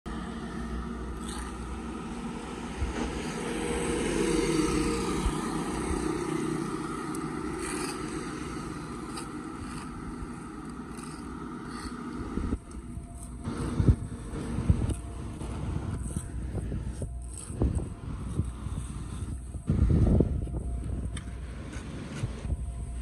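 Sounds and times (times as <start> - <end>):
motorbikes: 0.1 - 23.0
road traffic passing: 0.1 - 23.0
truck passing: 0.1 - 23.0.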